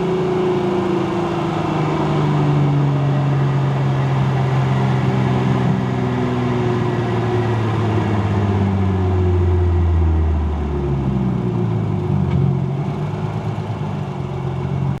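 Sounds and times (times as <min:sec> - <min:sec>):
car engine at low revs: 0:00.0 - 0:15.0
deep drone: 0:00.0 - 0:15.0.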